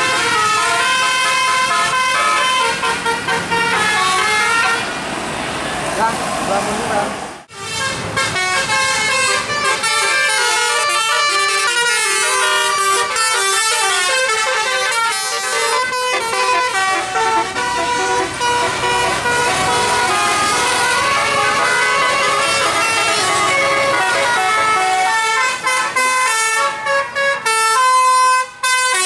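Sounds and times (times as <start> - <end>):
musical bus horn melody: 0.0 - 5.0, 7.5 - 29.0.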